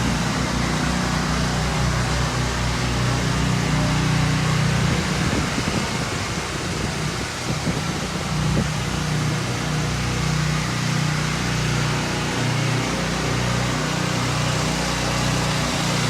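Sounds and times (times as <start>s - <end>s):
pressure washer engine running: 0.0s - 16.0s
water spraying onto concrete: 0.0s - 16.0s.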